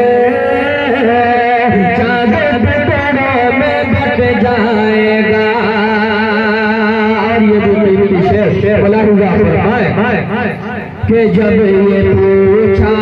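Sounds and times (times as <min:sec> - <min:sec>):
man singing devotional poem: 0:00.0 - 0:13.0.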